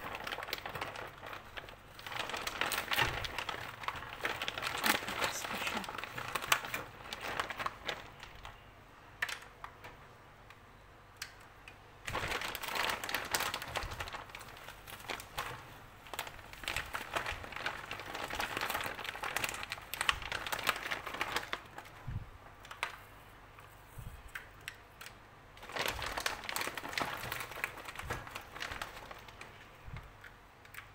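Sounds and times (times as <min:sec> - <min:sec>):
crinkling plastic and foil tray: 0:00.0 - 0:10.0, 0:12.0 - 0:24.8, 0:25.6 - 0:30.9.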